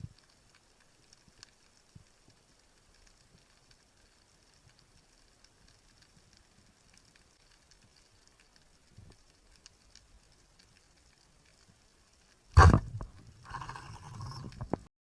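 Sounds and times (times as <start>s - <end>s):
faint underwater crackling: 0.0s - 14.9s.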